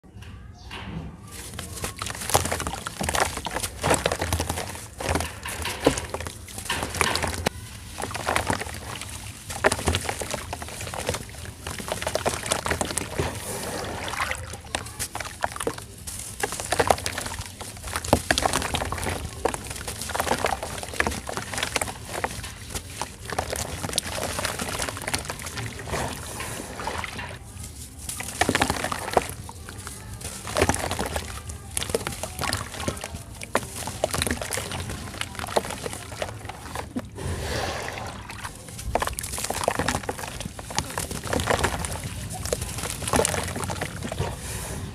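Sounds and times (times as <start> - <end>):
packed sand crumbling: 1.2 - 44.9
wet sloshing and trickling: 1.3 - 44.9.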